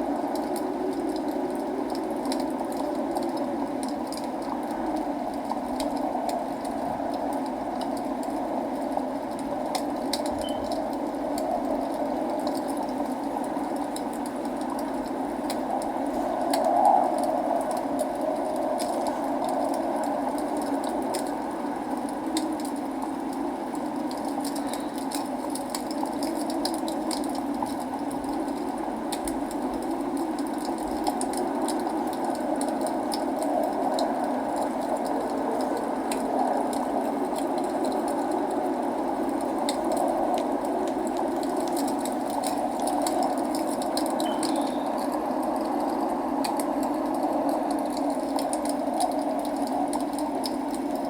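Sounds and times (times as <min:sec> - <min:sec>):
rain hiss: 0:00.0 - 0:51.0
wood fire crackling: 0:00.0 - 0:51.0.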